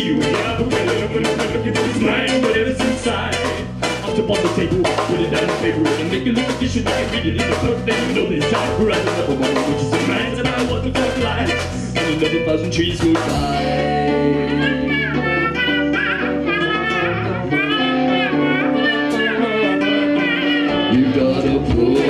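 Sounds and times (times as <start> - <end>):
drum kit beat: 0.0 - 22.0
people singing: 0.0 - 22.0
strummed acoustic guitars: 0.0 - 22.0.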